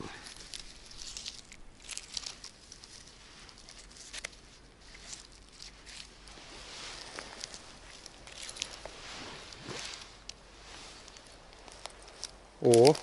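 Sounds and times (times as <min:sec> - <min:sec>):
rustling of moss and pine needles: 0:00.0 - 0:13.0.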